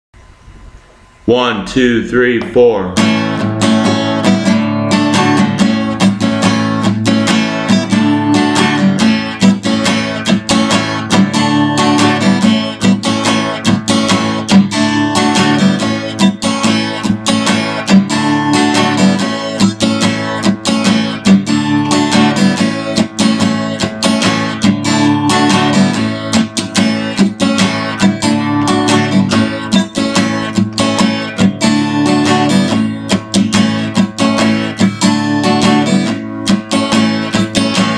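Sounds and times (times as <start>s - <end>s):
acoustic guitar strumming: 1.3s - 37.9s.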